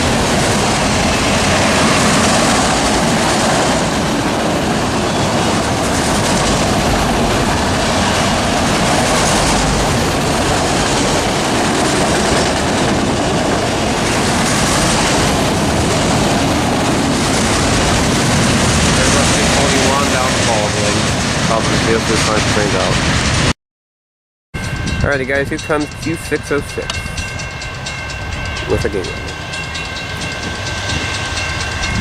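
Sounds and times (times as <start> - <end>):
freight train rolling on rails: 0.0 - 23.5, 24.6 - 32.0.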